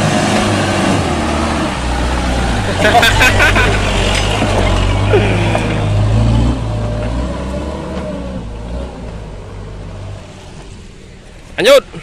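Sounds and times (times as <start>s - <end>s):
truck engine labouring: 0.0s - 12.0s.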